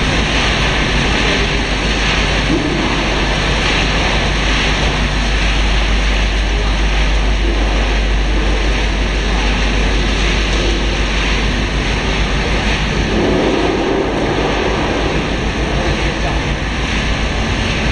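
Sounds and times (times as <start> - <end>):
production line machinery running: 0.0 - 17.9.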